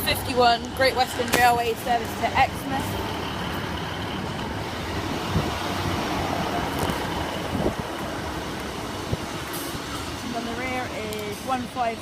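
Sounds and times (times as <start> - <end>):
diesel train engine: 0.0 - 12.0
train wheel noise: 0.0 - 12.0.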